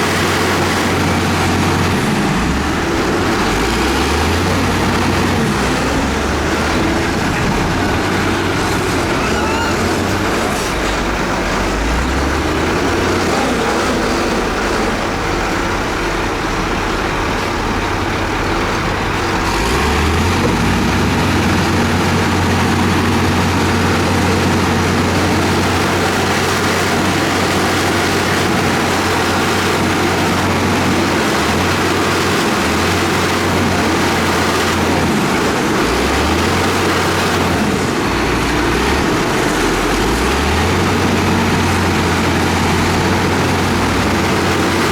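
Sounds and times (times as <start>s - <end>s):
heavy diesel engines revving: 0.0s - 44.9s.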